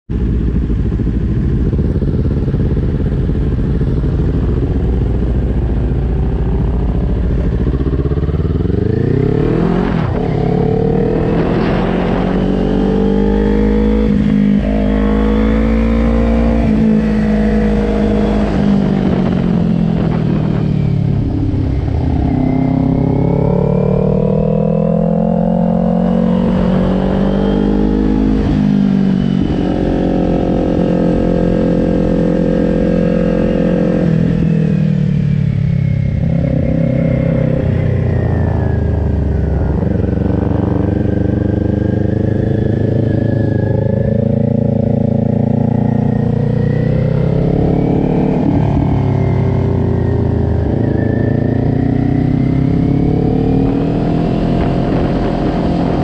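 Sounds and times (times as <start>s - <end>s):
motorcycle engine revving: 0.2s - 56.0s.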